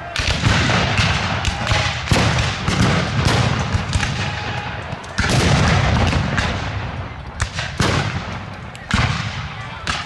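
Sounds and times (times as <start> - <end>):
musket fire: 0.0 - 10.0.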